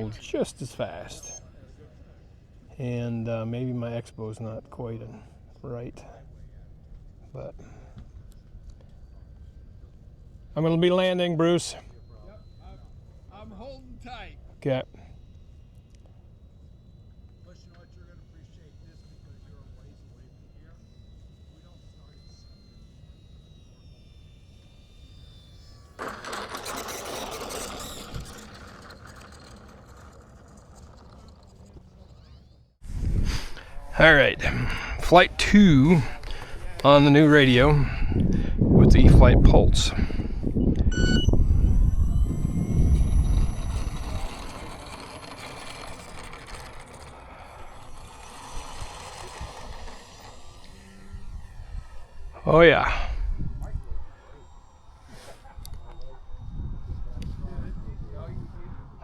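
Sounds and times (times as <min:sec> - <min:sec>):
model airplane motor buzzing: 0:00.0 - 0:59.0.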